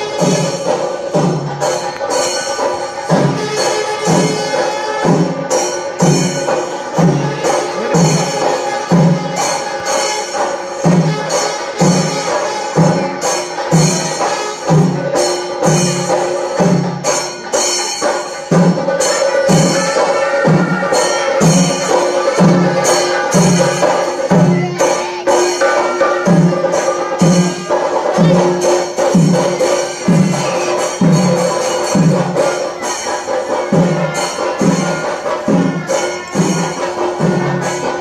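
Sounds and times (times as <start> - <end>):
music with steady drum beat: 0.0 - 38.0.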